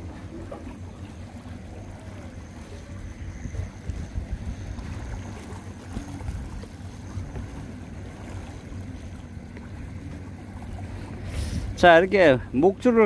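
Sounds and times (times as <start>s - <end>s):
faint sea noise: 0.0s - 13.0s
wind buffeting microphone: 0.0s - 13.0s.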